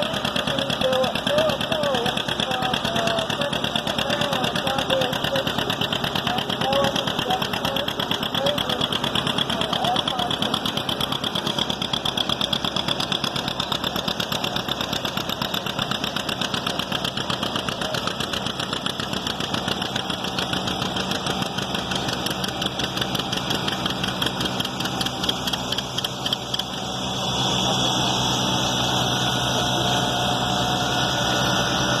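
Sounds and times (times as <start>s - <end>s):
two-cylinder engine running: 0.0s - 32.0s.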